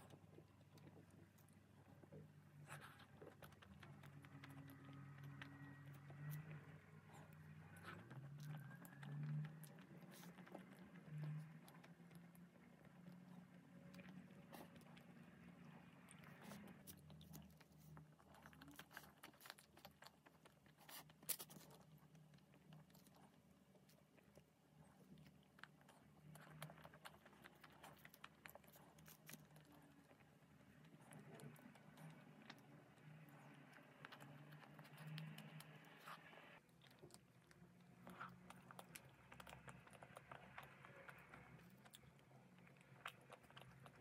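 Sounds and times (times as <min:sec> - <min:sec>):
biting and chewing chocolate: 0:00.0 - 0:44.0.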